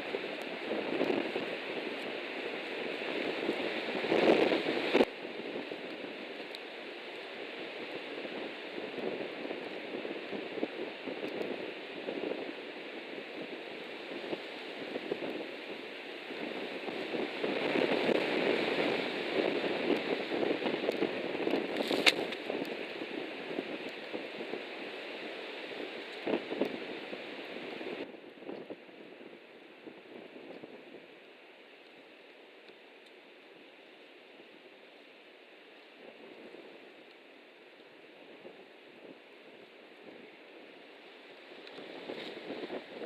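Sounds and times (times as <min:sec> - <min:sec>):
wind buffeting microphone: 0:00.0 - 0:31.1, 0:38.2 - 0:43.0.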